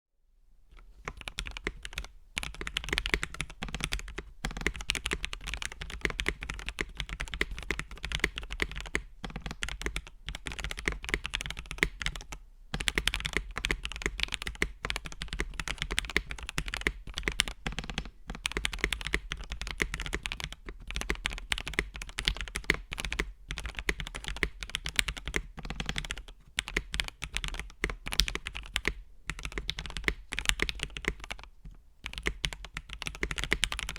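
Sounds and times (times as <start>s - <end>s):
mechanical keyboard typing: 1.1s - 33.9s.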